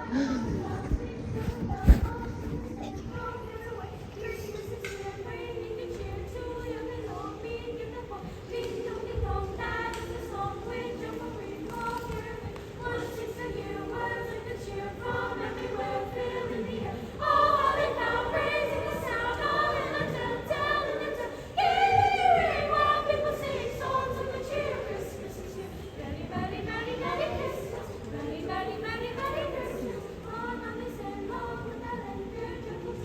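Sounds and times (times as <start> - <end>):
choir singing a cappella: 0.0 - 33.0.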